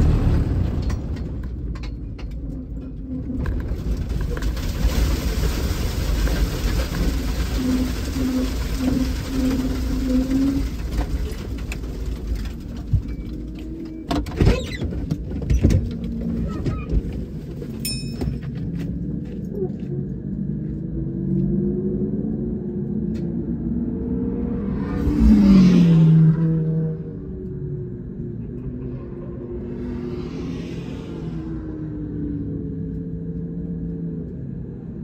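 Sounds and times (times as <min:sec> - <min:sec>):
race car engine: 0:00.0 - 0:17.8, 0:18.4 - 0:35.0.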